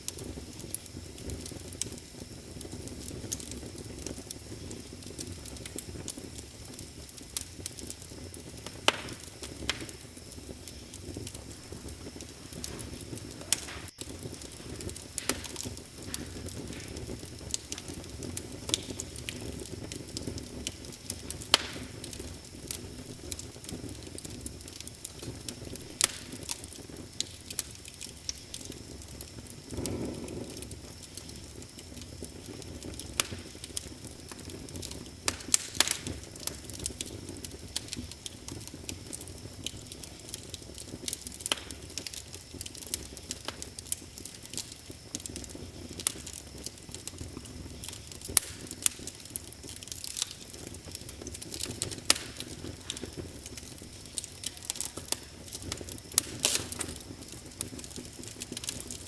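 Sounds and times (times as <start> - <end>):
low rush of flame: 0.0 - 59.0
wood fire crackling and popping: 0.0 - 59.0.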